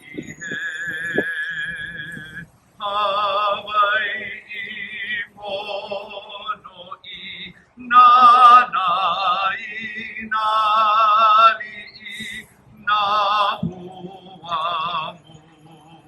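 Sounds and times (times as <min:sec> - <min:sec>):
person singing with vibrato: 0:00.0 - 0:16.0.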